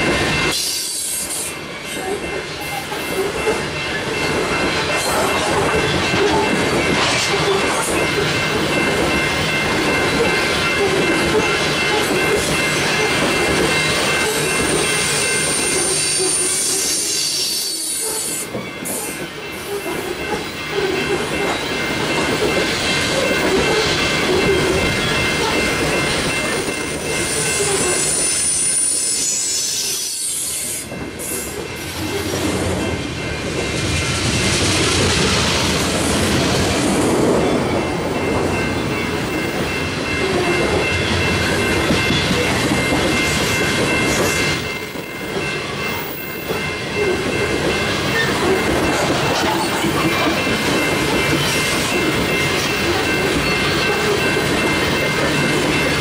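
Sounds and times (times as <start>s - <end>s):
train wheels clattering on rail: 0.0s - 29.1s, 30.6s - 56.0s.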